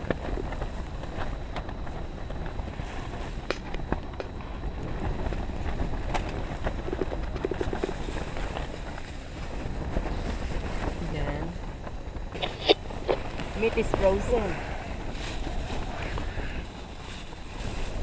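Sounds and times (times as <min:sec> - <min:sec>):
strong wind buffeting tent: 0:00.0 - 0:18.0.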